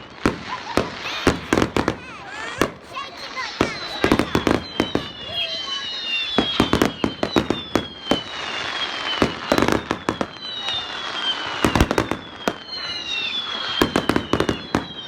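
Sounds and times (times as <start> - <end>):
firework whistles sliding down: 0.0 - 15.0
fireworks bangs and crackles: 0.0 - 15.0.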